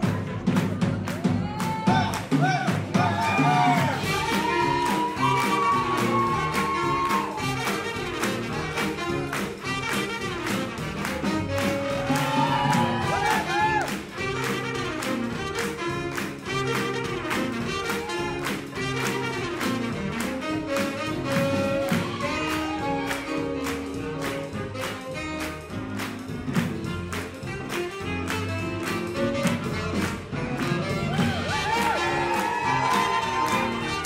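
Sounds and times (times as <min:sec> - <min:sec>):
swing jazz band playing: 0:00.0 - 0:34.0.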